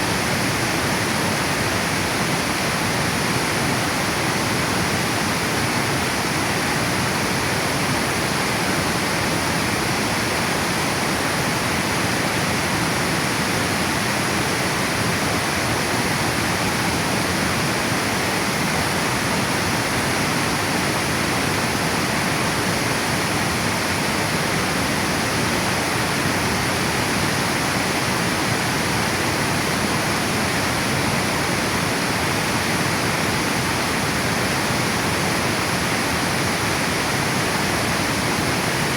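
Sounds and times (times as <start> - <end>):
water rushing over weir: 0.0 - 38.9.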